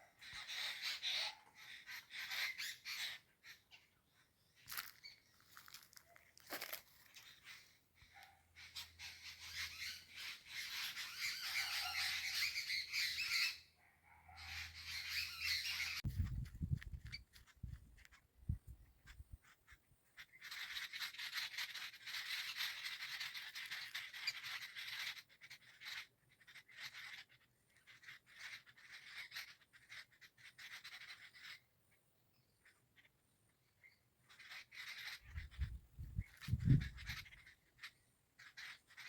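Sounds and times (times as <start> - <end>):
parrots chattering: 0.0 - 4.0, 4.7 - 13.7, 14.3 - 16.0, 20.2 - 31.7, 32.6 - 39.0.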